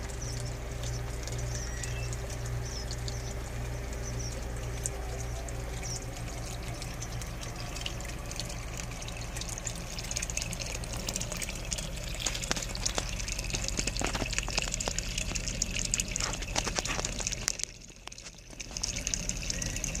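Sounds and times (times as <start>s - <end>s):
low steady hum: 0.0s - 20.0s
water trickling: 0.0s - 20.0s.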